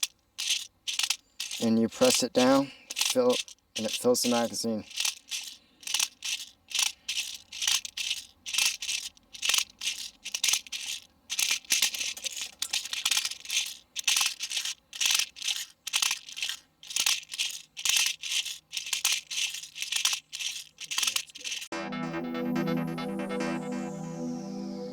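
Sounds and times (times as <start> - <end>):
bbs rattling through speed loader: 0.0 - 21.7.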